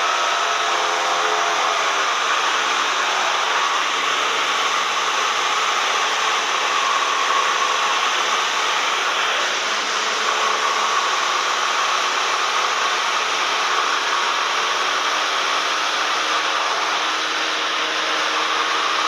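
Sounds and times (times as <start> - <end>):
small plane engine drone: 0.0 - 19.0.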